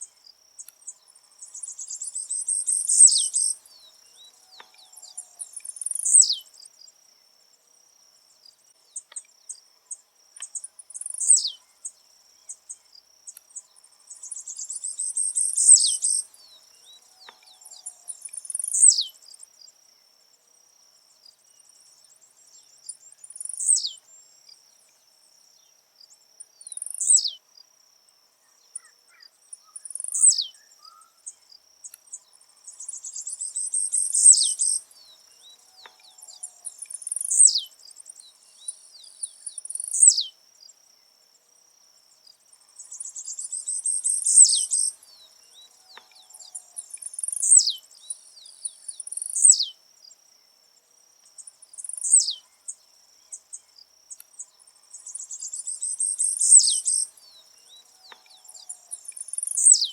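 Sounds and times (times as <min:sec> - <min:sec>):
high insect whine: 0:00.0 - 0:20.0, 0:20.6 - 0:59.9
bird singing: 0:00.0 - 0:20.4, 0:21.0 - 0:27.7, 0:28.3 - 0:41.2, 0:42.1 - 0:50.6, 0:51.2 - 0:59.9.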